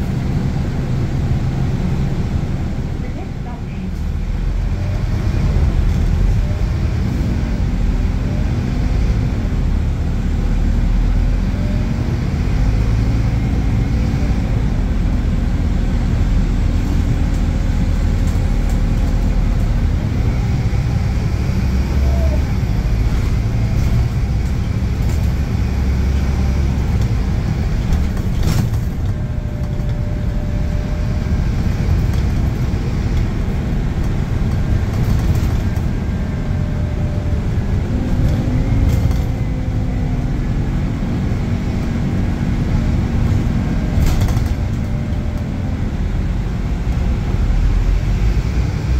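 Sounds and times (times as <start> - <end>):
bus diesel engine pulling: 0.0 - 48.9.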